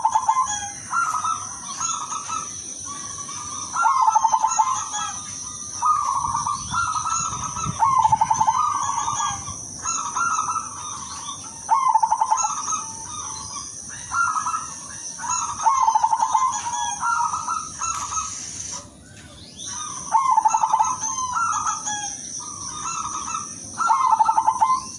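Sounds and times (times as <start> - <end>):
dove cooing with stuttering trill: 0.0 - 18.2, 20.1 - 24.9.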